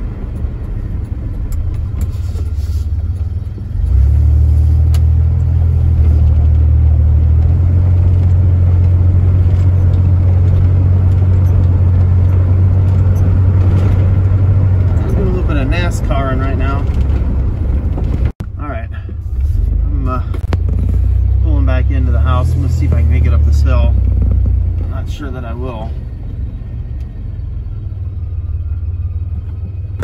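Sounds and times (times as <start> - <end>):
engine and road hum: 0.0 - 30.0.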